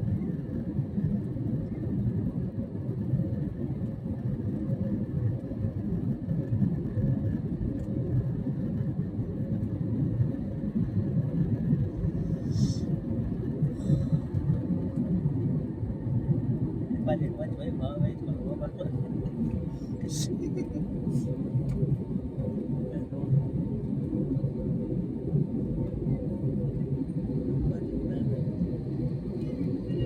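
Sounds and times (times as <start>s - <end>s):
airliner engine and airflow rumble: 0.0s - 30.0s.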